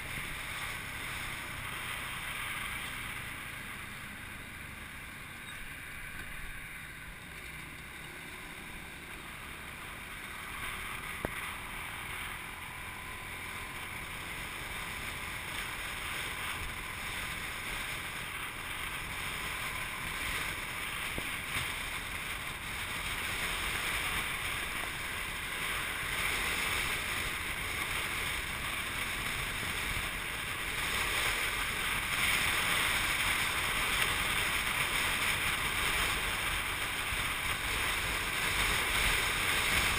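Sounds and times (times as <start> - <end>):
motorcycle engine and road noise: 0.0 - 39.9.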